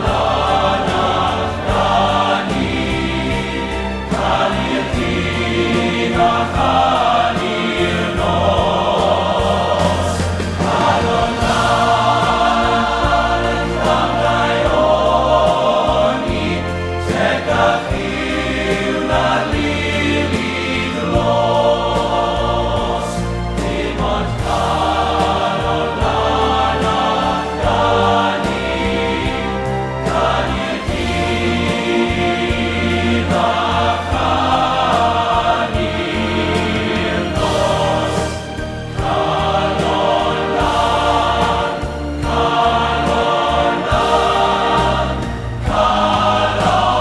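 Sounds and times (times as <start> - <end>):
choir singing: 0.0 - 47.0
low bass accompaniment: 0.0 - 47.0.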